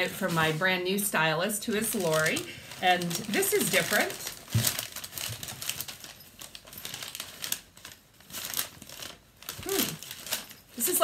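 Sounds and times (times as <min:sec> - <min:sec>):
garment bag rustling and crinkling: 0:00.0 - 0:11.0.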